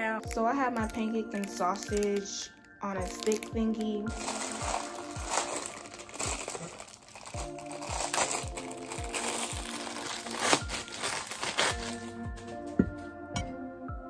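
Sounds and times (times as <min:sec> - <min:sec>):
background music with steady beat: 0:00.0 - 0:14.0
plastic wrapper crinkling: 0:00.8 - 0:12.1.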